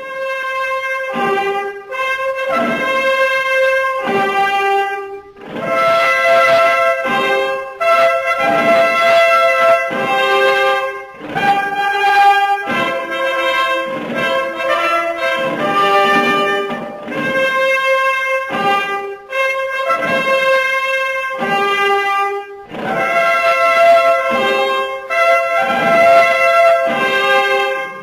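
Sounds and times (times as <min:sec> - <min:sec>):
brass fanfare: 0:00.0 - 0:28.0.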